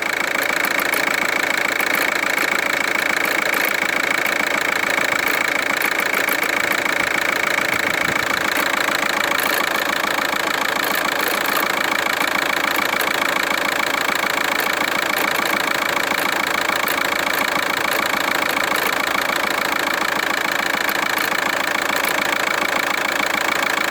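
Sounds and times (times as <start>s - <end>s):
engine idling with rattle: 0.0s - 23.9s.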